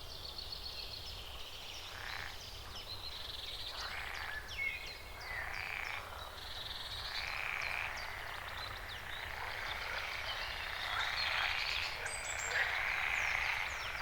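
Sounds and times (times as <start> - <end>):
continuous background hiss: 0.0 - 14.0
birds chirping and trilling: 0.2 - 14.0.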